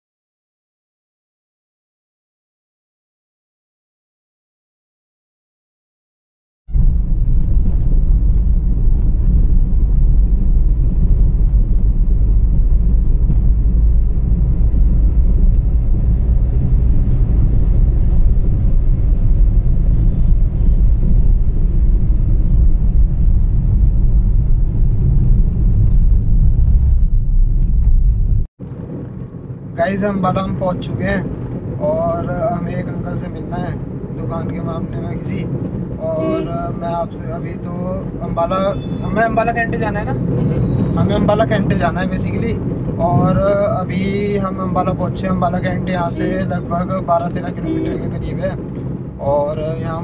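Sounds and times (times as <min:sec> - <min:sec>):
car interior driving rumble: 0:06.7 - 0:50.0.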